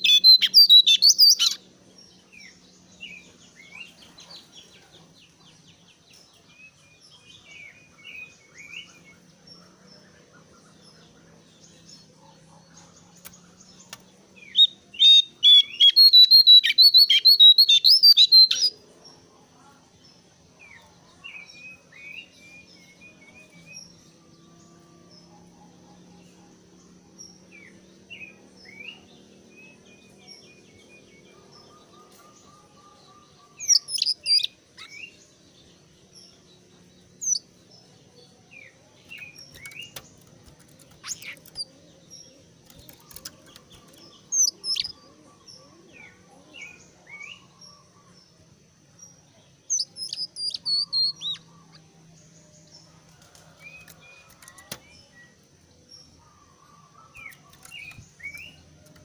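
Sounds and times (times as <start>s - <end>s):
songbird calling: 0.0s - 18.8s, 19.6s - 59.0s
bird chirps and trills: 0.0s - 59.0s.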